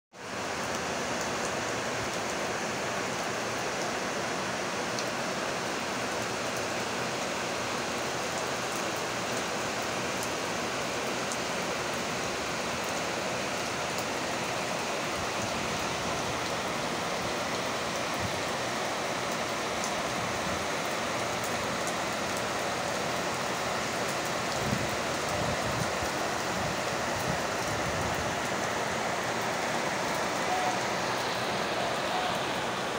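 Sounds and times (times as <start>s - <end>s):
heavy rain pouring: 0.2s - 32.9s.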